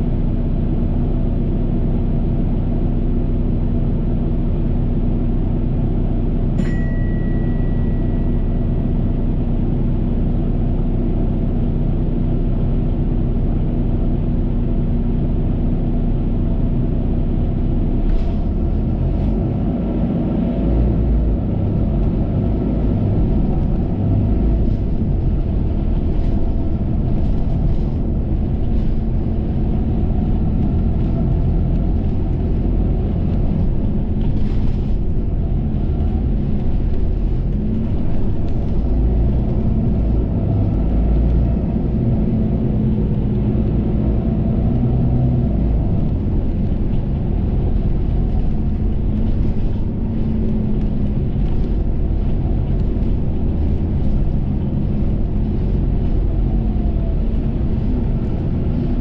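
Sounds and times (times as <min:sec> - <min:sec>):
bus engine hum and rumble: 0:00.0 - 0:59.0.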